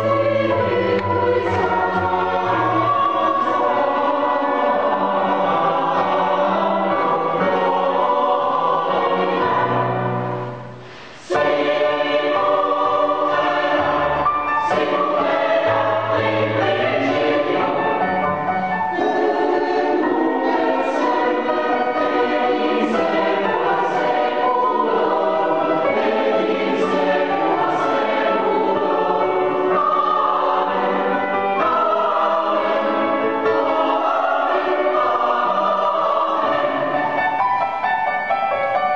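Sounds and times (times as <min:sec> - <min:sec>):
mixed choir singing: 0:00.0 - 0:37.9.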